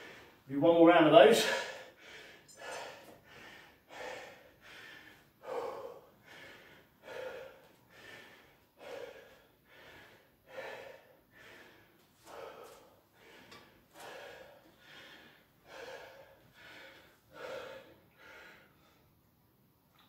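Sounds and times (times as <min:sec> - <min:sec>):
man breathing hard: 0:00.0 - 0:00.5, 0:01.2 - 0:19.4.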